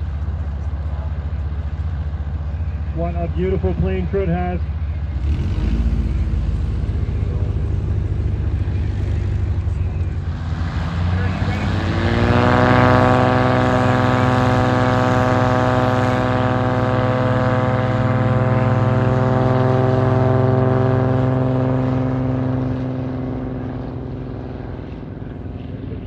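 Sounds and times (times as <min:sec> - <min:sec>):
light aircraft engine at full throttle: 0:00.0 - 0:26.0.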